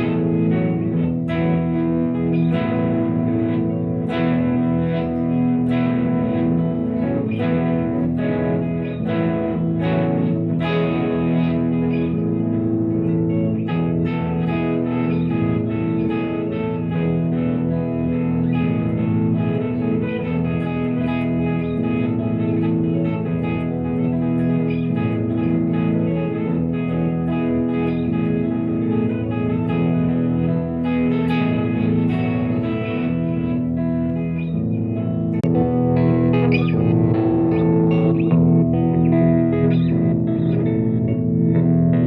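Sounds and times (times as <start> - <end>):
electric guitar notes and chords: 0.0 - 42.0.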